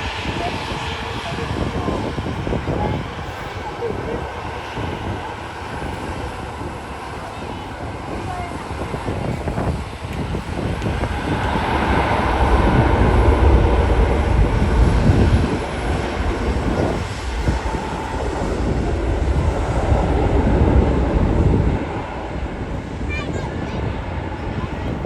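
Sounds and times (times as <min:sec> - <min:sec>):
jet engines at takeoff power: 0:00.0 - 0:25.0.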